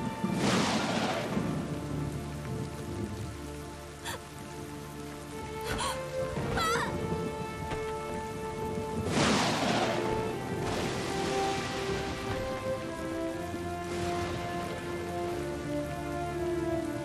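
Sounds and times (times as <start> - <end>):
heavy rain: 0.0 - 17.0
sombre score music: 0.0 - 17.0.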